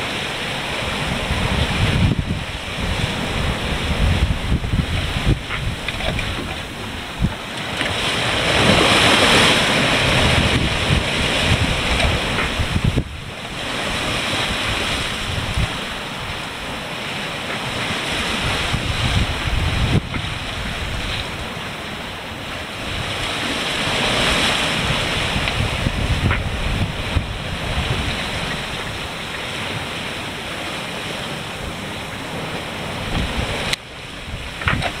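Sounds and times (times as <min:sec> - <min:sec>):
wind buffeting microphone: 0:00.0 - 0:30.5, 0:31.5 - 0:35.0
seawater splashing along hull: 0:00.0 - 0:35.0.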